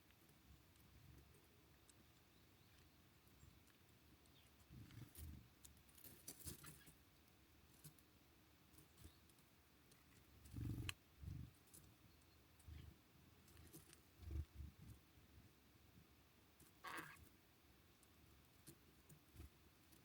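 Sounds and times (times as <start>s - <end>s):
birds pecking at feeder: 0.0s - 15.4s, 16.5s - 20.0s.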